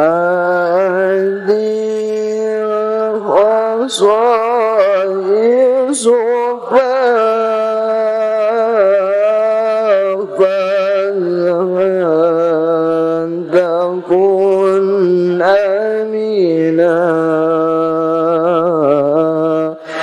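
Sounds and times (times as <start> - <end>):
man chanting devotional verse: 0.0 - 20.0.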